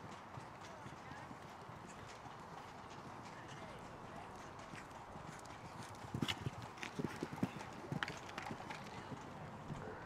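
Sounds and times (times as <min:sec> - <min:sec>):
horse hoofbeats on sand: 0:00.0 - 0:09.8.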